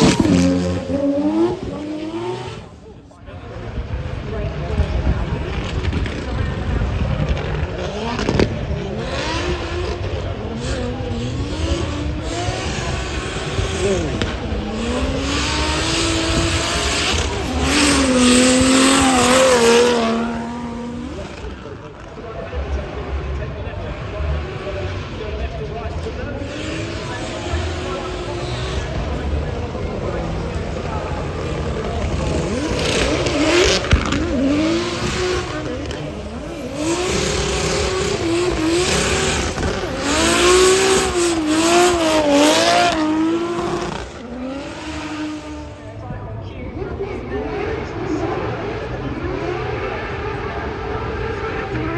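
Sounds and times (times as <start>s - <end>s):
car engine at high revs: 0.0s - 51.9s.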